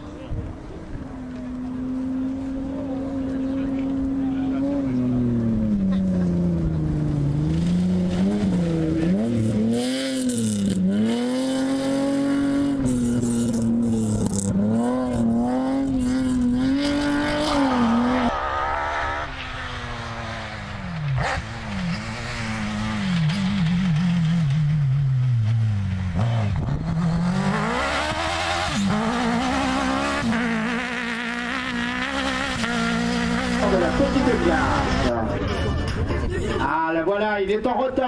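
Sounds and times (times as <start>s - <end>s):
buggy engine revving: 0.0s - 36.7s
rally car engine revving: 0.0s - 36.7s.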